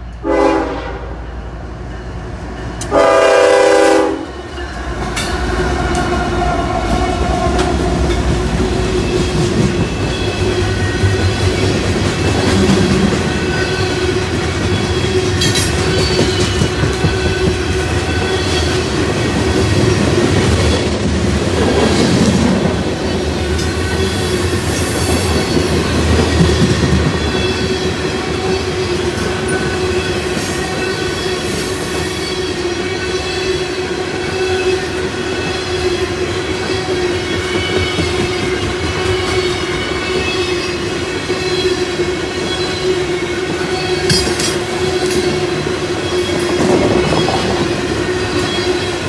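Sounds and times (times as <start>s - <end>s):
train wheels rumbling on rails: 0.0s - 49.0s.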